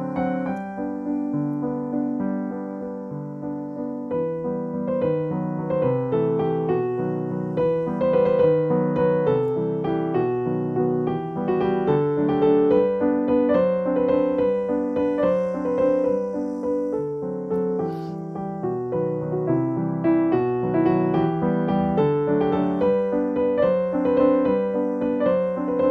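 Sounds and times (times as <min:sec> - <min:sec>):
piano music: 0:00.0 - 0:25.9.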